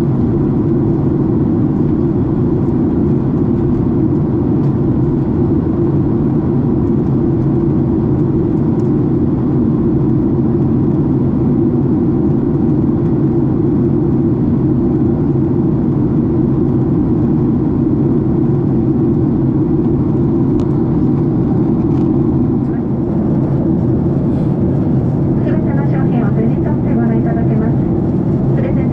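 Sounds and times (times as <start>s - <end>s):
airliner cabin engine noise: 0.0s - 28.9s.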